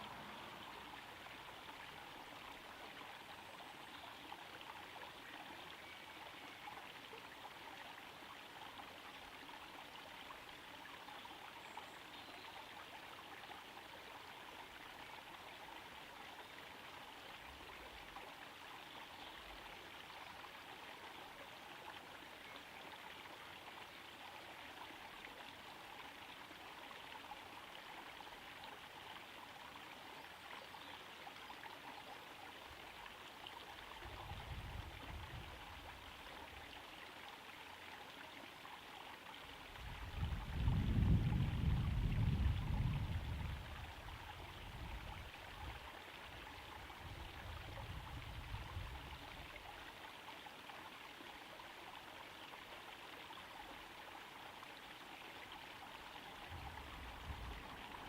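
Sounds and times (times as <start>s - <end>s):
water trickling into pond: 0.0s - 58.0s.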